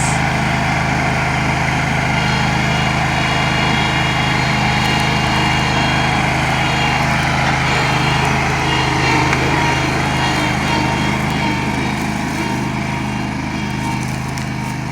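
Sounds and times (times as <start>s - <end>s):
backhoe engine running: 0.0s - 14.9s.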